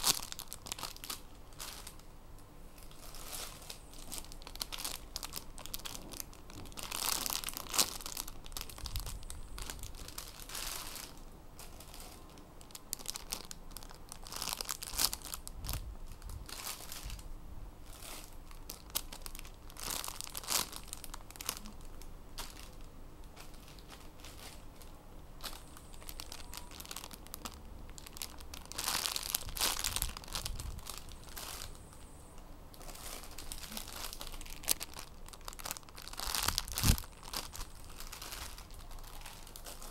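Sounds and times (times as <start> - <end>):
plastic bags crinkling: 0.0 - 2.1, 2.7 - 39.9.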